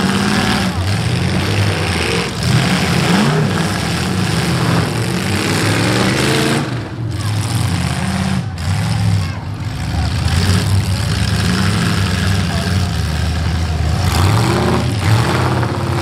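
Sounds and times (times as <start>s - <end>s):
car engines revving hard: 0.0s - 16.0s.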